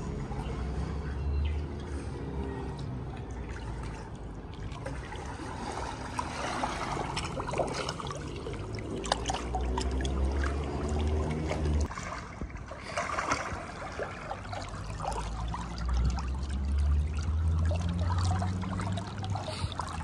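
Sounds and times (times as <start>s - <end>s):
pool water lapping: 1.6s - 20.0s
swimmer splashing: 3.1s - 20.0s.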